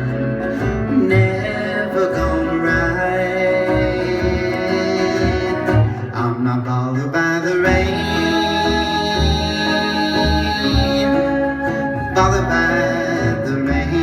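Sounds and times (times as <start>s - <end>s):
live band playing folk-pop: 0.0s - 14.0s.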